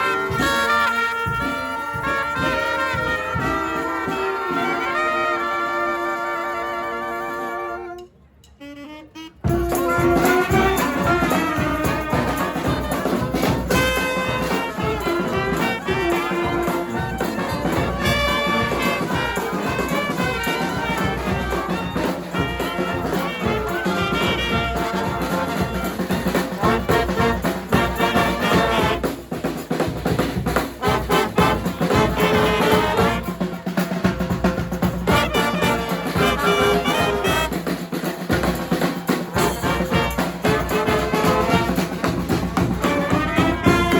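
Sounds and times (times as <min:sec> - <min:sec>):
steady drum beat: 0:00.0 - 0:05.2, 0:09.4 - 0:43.9
brass band playing: 0:00.0 - 0:43.9
trumpets and trombones: 0:00.0 - 0:43.9.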